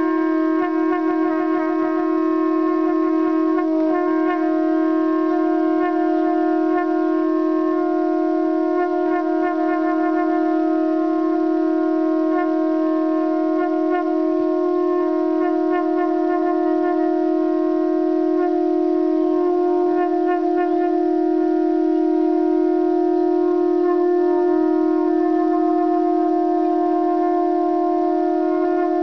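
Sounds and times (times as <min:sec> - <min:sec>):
conch shells blown: 0:00.0 - 0:29.0.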